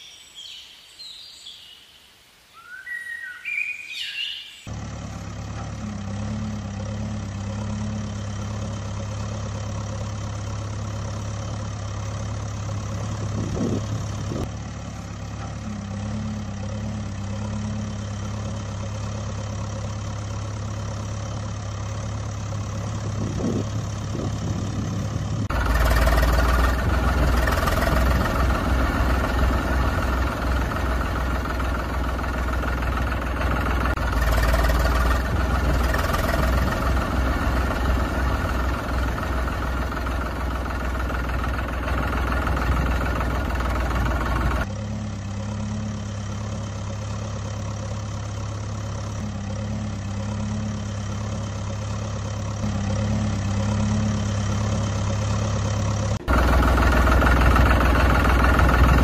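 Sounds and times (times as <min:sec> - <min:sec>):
deeper-running engine: 0:03.4 - 0:59.0
engine idling: 0:04.6 - 0:59.0.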